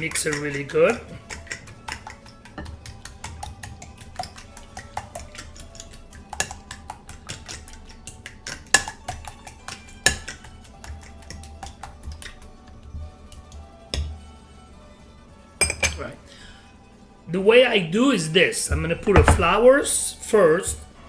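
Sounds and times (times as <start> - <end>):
fork beating eggs in bowl: 0.0 - 14.4, 18.5 - 20.9
background music: 0.0 - 21.0.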